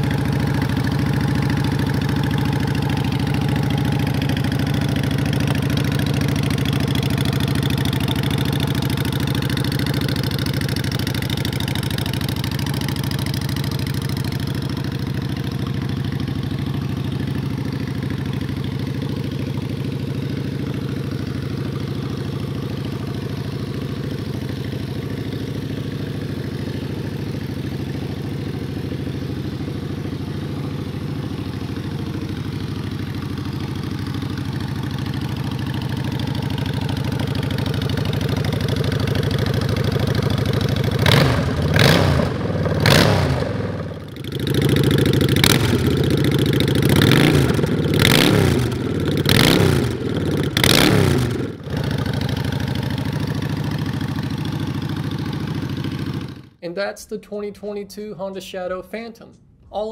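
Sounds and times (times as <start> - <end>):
motorcycle engine idling and revving: 0.0 - 56.6.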